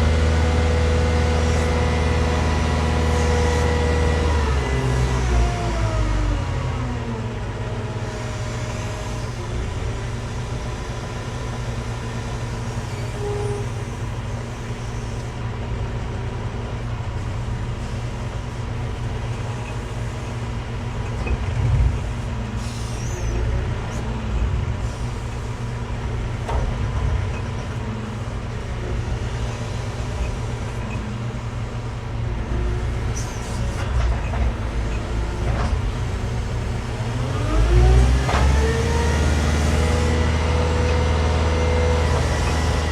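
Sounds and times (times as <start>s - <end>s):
heavy machine engine humming: 0.0s - 42.9s.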